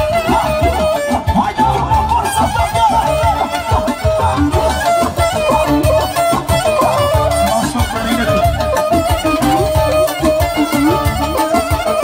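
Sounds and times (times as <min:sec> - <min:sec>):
clarinet melody: 0:00.0 - 0:12.0
live band accompaniment: 0:00.0 - 0:12.0
pulsing bass: 0:00.0 - 0:12.0.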